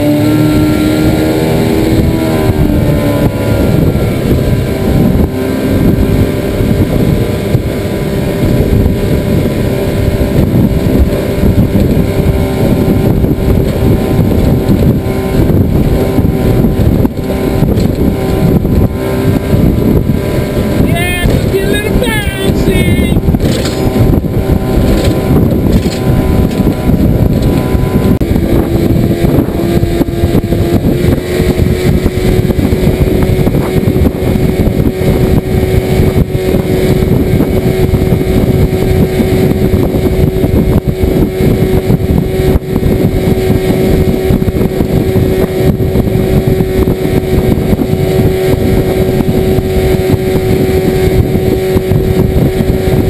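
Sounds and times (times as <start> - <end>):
outboard motor running: 0.0 - 53.0
wind and water noise: 0.0 - 53.0.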